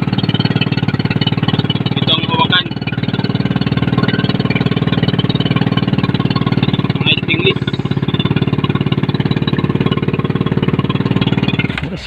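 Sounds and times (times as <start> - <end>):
motorboat engine chugging: 0.0 - 12.0.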